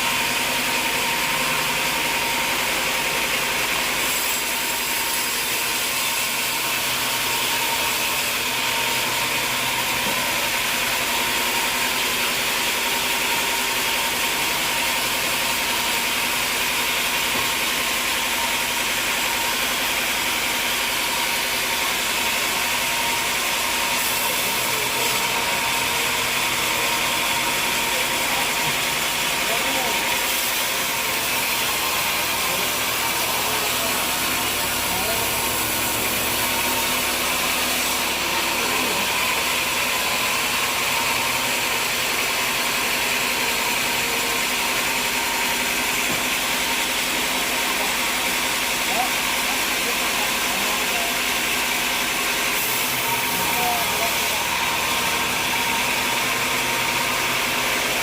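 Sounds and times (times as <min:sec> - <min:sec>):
machinery high whine: 0:00.0 - 0:58.0.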